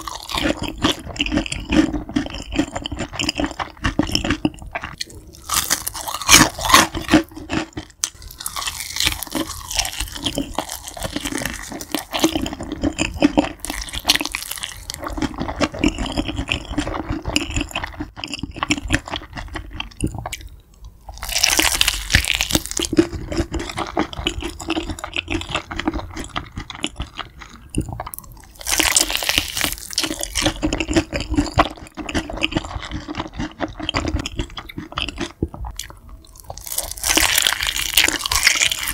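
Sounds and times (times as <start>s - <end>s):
crunching bites of fried chicken: 0.0s - 20.5s, 21.1s - 38.9s.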